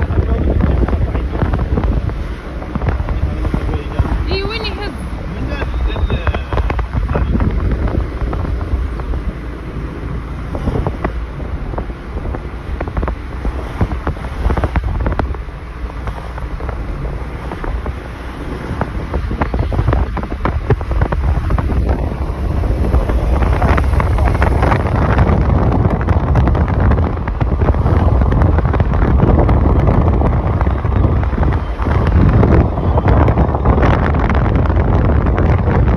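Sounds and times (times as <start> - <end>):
street traffic: 0.0 - 35.9
wind buffeting microphone: 0.0 - 35.9.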